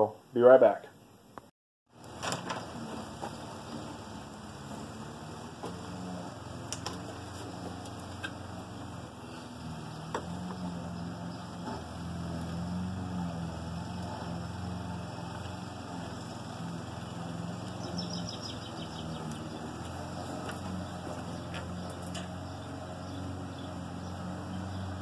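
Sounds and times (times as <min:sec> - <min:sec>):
motor droning: 0:01.9 - 0:25.0.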